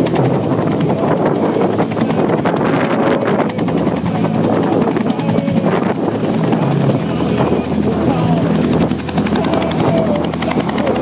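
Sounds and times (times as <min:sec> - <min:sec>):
helicopter rotors beating: 0:00.0 - 0:11.0.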